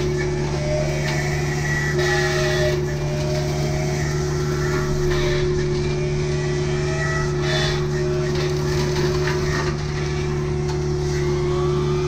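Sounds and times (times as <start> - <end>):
excavator machine hum: 0.0 - 12.0.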